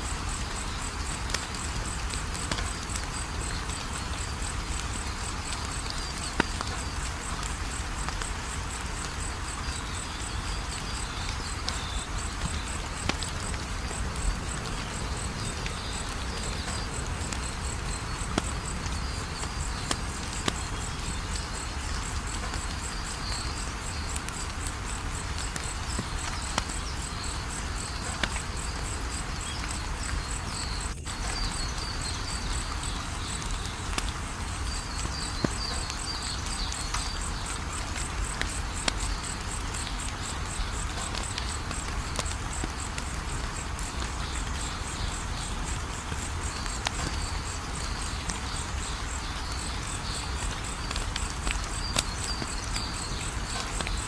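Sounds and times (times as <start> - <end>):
crickets chirping: 0.0 - 54.0
steady low hiss: 0.0 - 54.0
wood fire crackling: 0.1 - 54.0.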